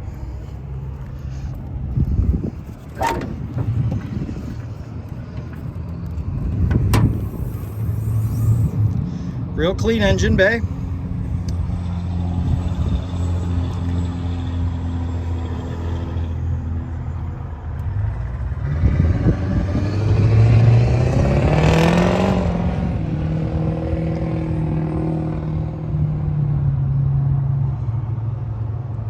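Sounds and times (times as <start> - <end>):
truck engine revving and idling: 0.0 - 27.8.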